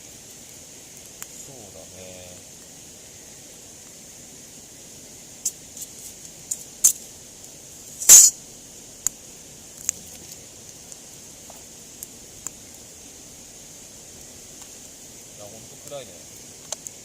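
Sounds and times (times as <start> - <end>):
campfire wood crackling: 0.0 - 17.0
steady high hiss: 0.0 - 17.0.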